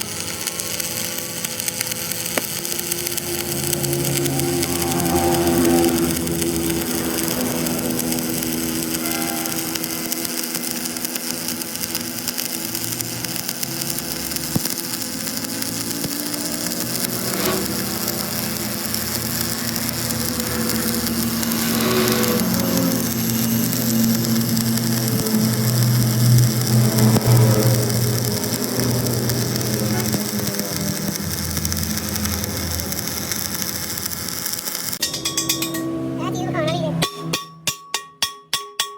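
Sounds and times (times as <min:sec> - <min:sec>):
power tool running: 0:00.0 - 0:37.3.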